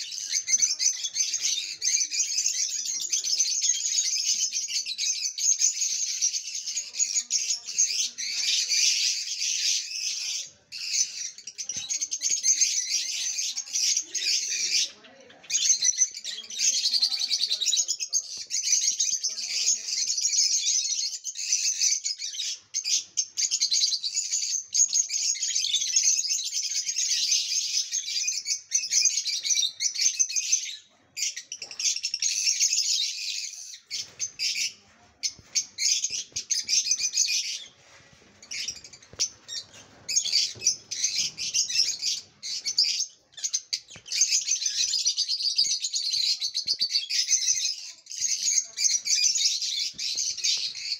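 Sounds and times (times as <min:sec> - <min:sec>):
lovebirds chirping: 0:00.0 - 0:50.9.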